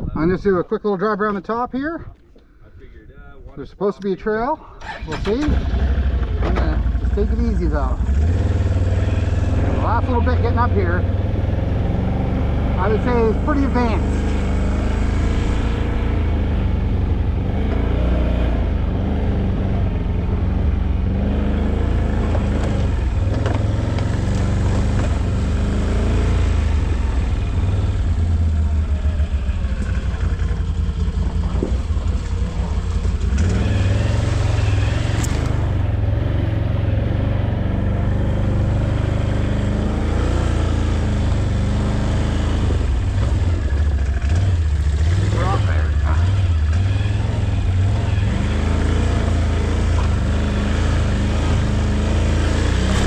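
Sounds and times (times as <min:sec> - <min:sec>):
atv engine running: 0:04.8 - 0:53.0.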